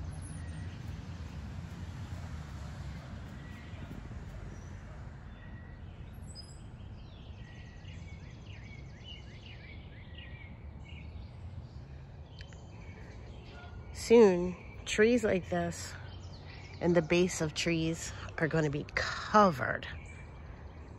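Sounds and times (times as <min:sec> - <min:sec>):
songbird chirping: 0:00.0 - 0:20.9.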